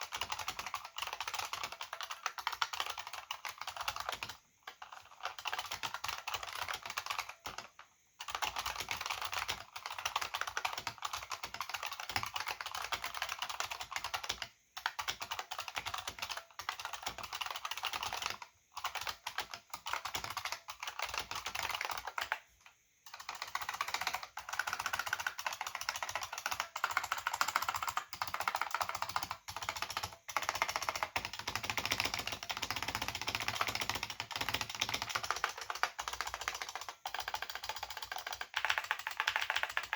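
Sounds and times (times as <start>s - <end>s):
fast keyboard typing clicks: 0.0s - 39.9s.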